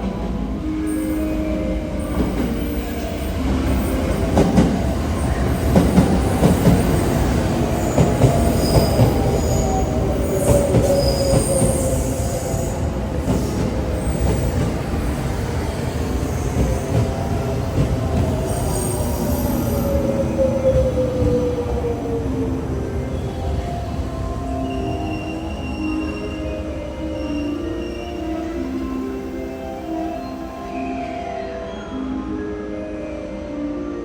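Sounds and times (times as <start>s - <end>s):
train drone: 0.0s - 34.0s
train wheels squealing: 0.8s - 32.2s.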